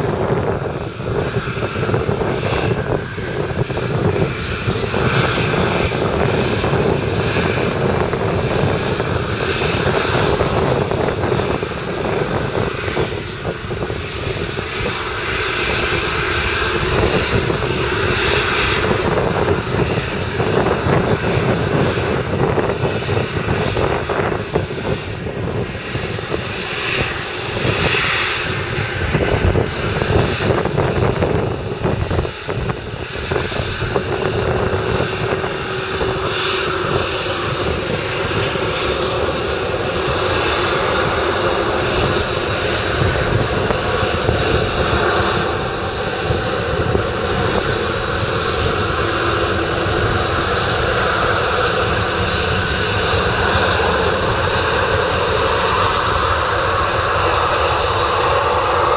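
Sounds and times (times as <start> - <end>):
jet engines taxiing: 0.0 - 58.9.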